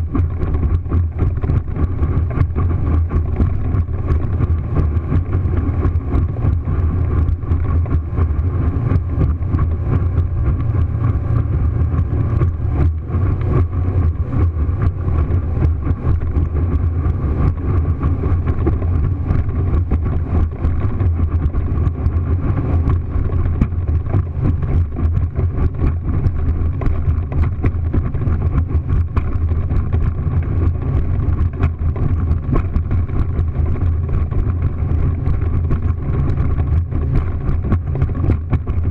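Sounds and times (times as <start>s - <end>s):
motorboat engine rumbling: 0.0s - 38.9s
wind and water rushing: 0.0s - 38.9s.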